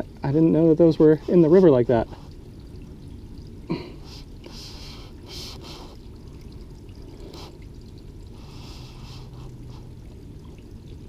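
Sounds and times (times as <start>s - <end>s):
river water trickling: 0.0s - 11.0s.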